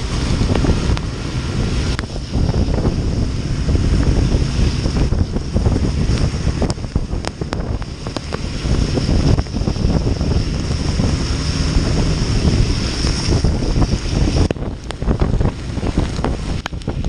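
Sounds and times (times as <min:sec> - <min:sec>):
raindrops ticking: 0:00.0 - 0:17.0
wind buffeting microphone: 0:00.0 - 0:17.0.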